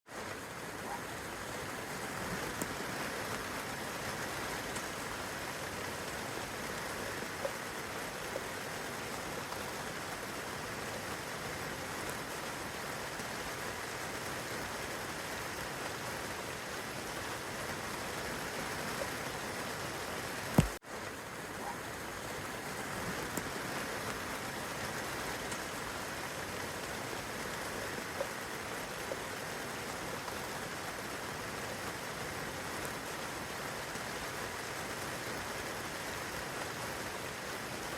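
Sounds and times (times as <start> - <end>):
steady rainfall: 0.1 - 37.9.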